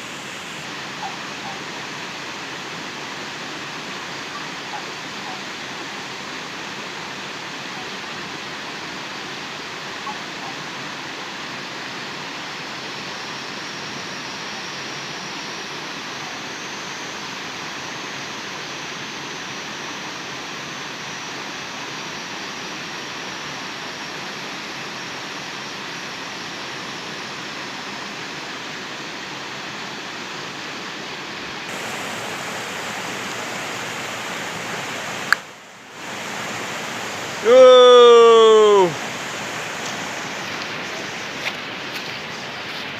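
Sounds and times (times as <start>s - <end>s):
flowing water in a stream: 0.0s - 42.9s.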